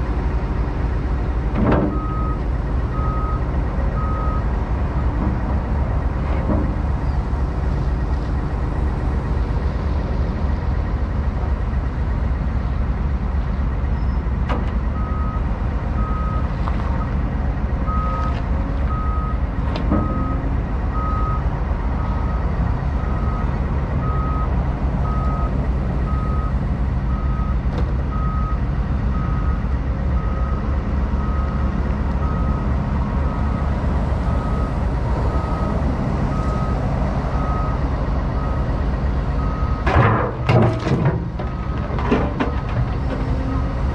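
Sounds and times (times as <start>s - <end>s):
diesel machinery droning: 0.0s - 43.9s.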